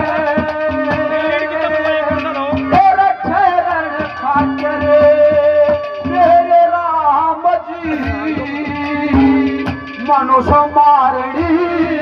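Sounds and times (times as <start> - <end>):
hand drum strokes: 0.0 - 12.0
wavering melody line: 0.0 - 12.0.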